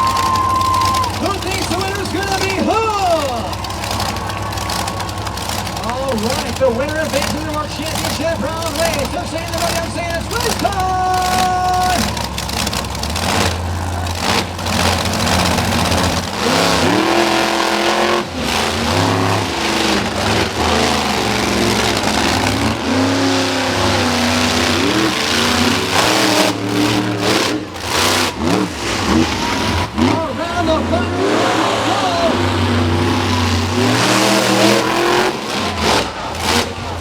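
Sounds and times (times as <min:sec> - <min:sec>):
truck engines revving: 0:00.0 - 0:37.0.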